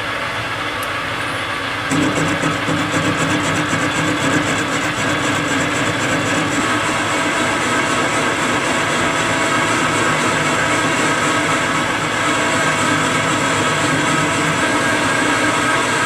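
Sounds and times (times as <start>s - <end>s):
metal lathe cutting: 1.2s - 16.0s.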